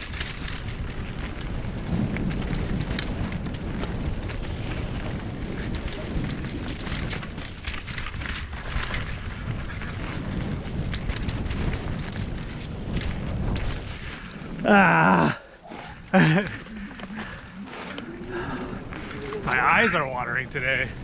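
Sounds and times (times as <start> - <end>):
bike clicking and rattling: 0.0 - 21.0
tyres rolling over damp ground: 0.0 - 21.0
wind rushing on microphone: 0.0 - 21.0.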